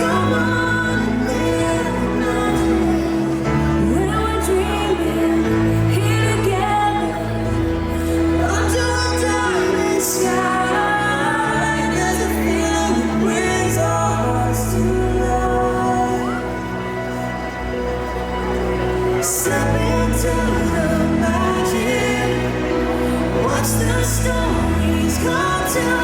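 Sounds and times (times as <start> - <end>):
music with singing over loudspeakers: 0.0 - 26.0.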